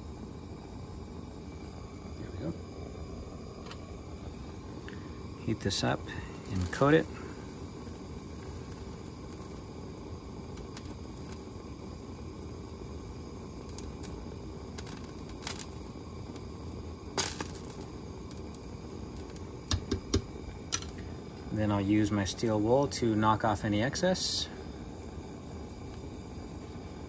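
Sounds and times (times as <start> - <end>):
gas torch flame rushing: 0.0 - 27.0.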